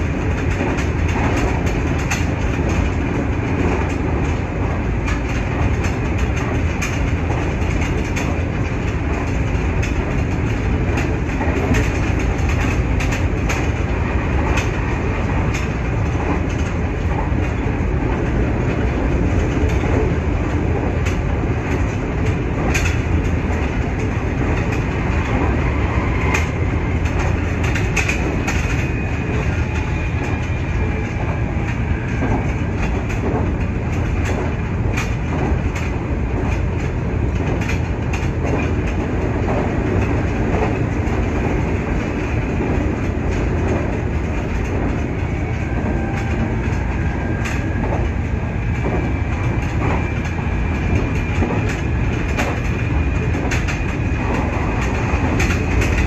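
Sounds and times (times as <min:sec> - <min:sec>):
train rumbling at speed: 0:00.0 - 0:56.0
wheels clacking over rail joints: 0:00.0 - 0:56.0.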